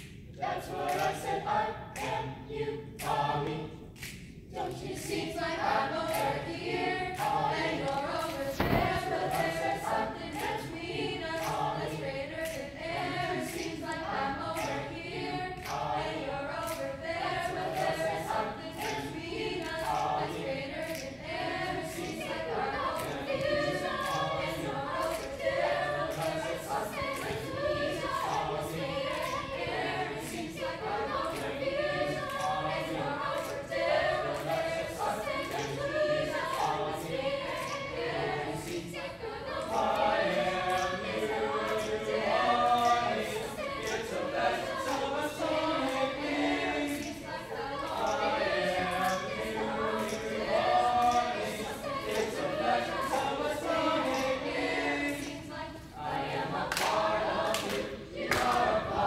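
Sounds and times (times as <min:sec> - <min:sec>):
sharp clicks keeping a beat: 0:00.0 - 0:55.5
choir singing a cappella: 0:00.0 - 0:59.0.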